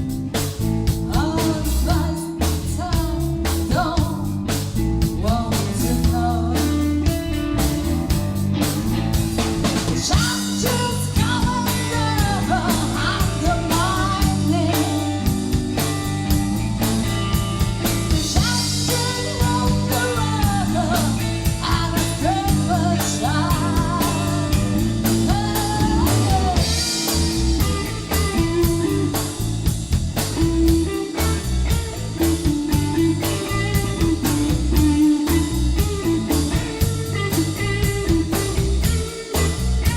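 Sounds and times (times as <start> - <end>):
bass guitar: 0.0 - 39.9
drum kit: 0.0 - 39.9
electric guitar: 0.0 - 39.9
pitch-bending lead guitar line: 0.0 - 39.9.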